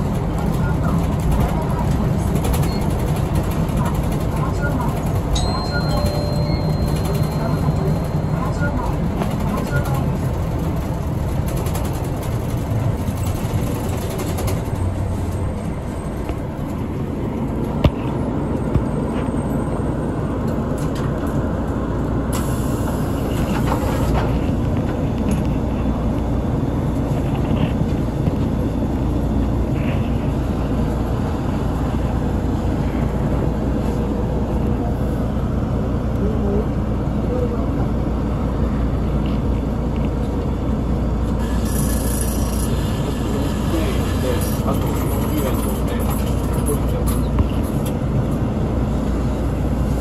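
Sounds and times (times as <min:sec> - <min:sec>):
bus engine and road noise: 0:00.0 - 0:50.0.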